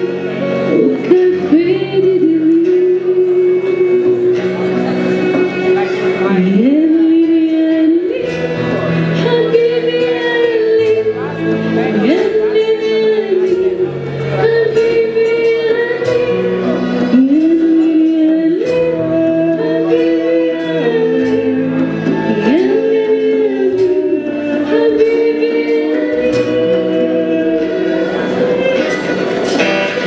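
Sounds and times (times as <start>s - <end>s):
woman singing into a microphone: 0.0s - 29.2s
keyboard: 0.0s - 30.0s
violin: 0.0s - 30.0s.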